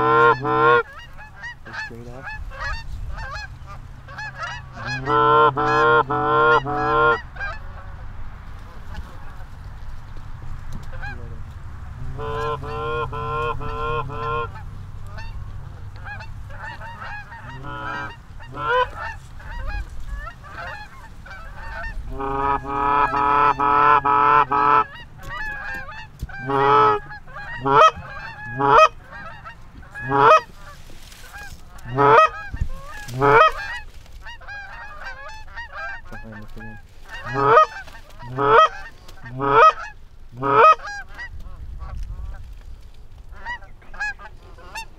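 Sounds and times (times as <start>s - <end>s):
geese honking: 0.0s - 44.9s.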